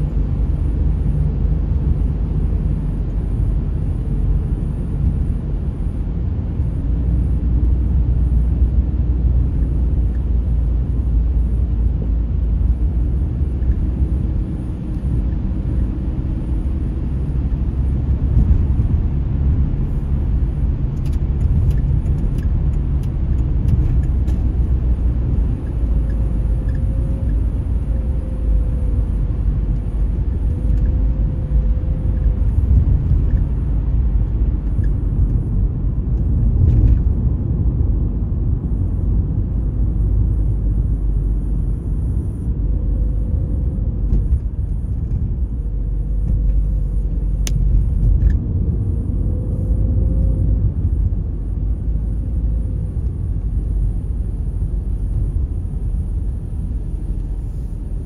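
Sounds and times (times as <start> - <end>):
faint wavering whine: 0.0 - 20.7, 23.8 - 58.0
car road noise from inside: 0.0 - 58.0.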